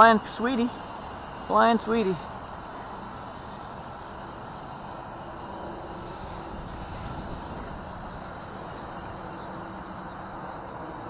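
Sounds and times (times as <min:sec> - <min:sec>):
model helicopter buzzing whine: 0:00.0 - 0:11.0.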